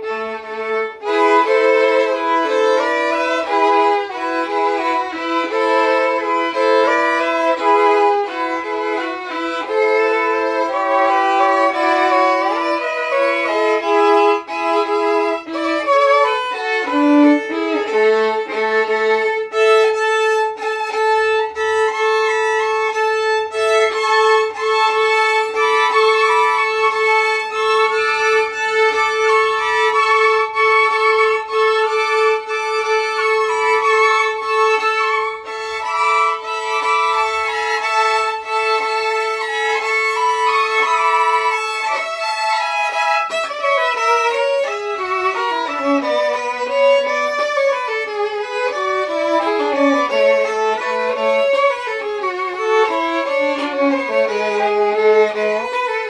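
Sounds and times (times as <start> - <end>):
violin duet: 0.0 - 56.0.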